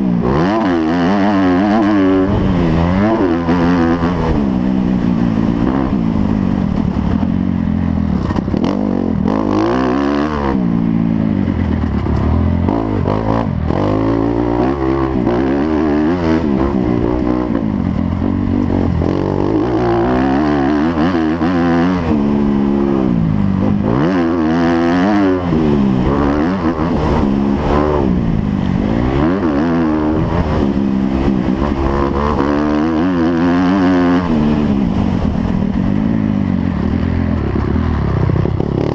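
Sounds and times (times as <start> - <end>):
motocross engines racing: 0.0 - 38.9.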